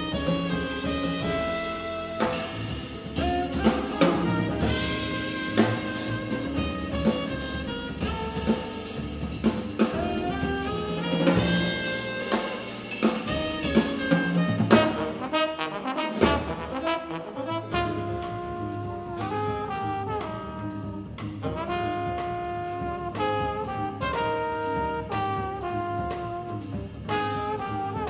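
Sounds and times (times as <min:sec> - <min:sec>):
drum kit steady beat: 0:00.0 - 0:28.0
live jazz quintet playing: 0:00.0 - 0:28.0.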